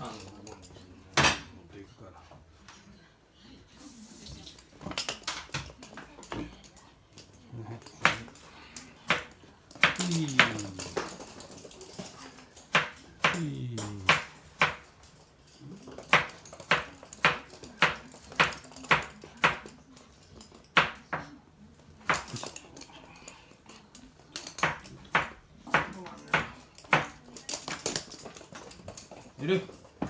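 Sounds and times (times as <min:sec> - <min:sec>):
dog claws clicking on hard floor: 0:04.2 - 0:30.0.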